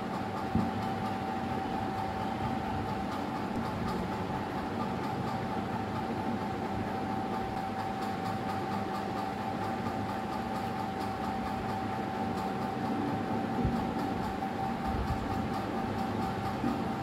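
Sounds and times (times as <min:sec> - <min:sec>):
mechanical hum with high whine: 0:00.0 - 0:17.0.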